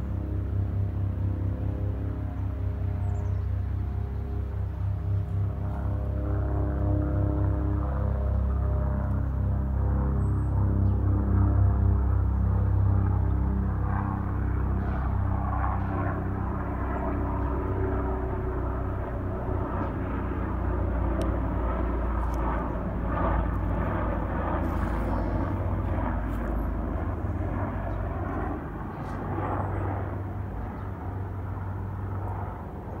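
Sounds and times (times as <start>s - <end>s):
helicopter rotor and turbine hum: 0.0s - 33.0s.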